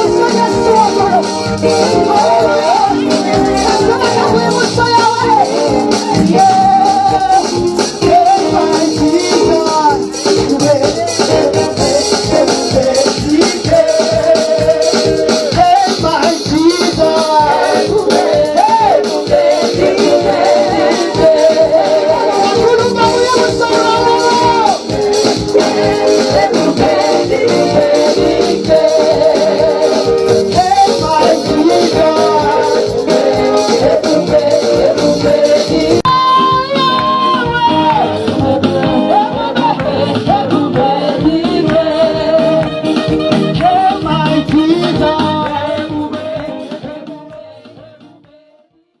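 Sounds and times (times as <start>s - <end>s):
shaker percussion: 0.0s - 48.4s
drums: 0.0s - 48.6s
congregation singing: 0.0s - 48.9s.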